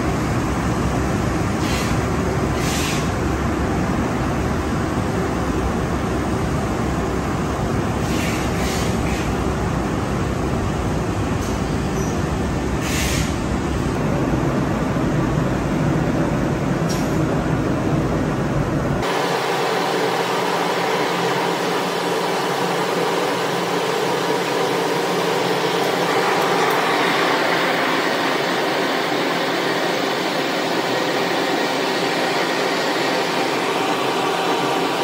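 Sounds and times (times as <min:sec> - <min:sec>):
loud rushing of air: 0:00.0 - 0:35.0.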